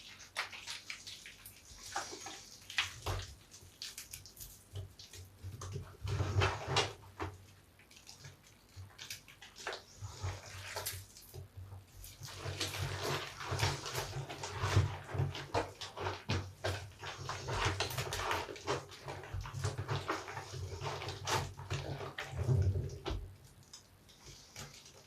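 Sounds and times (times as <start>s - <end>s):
soapy sponge squelching: 0.0s - 25.0s.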